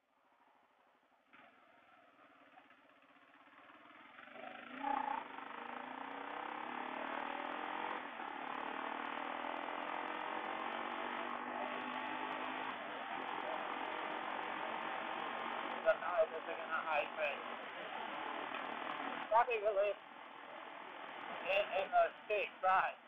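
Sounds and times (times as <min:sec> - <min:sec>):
motorcycle engine pulling away: 0:00.3 - 0:22.5.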